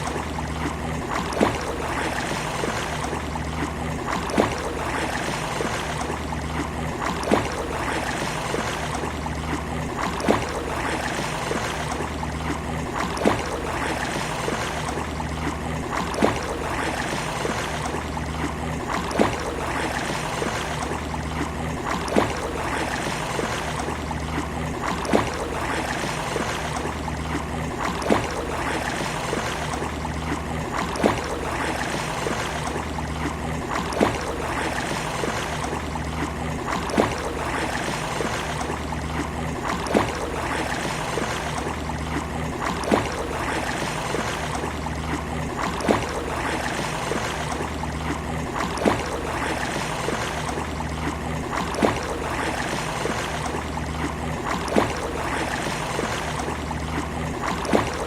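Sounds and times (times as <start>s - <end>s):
small sea waves lapping: 0.0s - 58.0s
water splash: 0.0s - 58.0s.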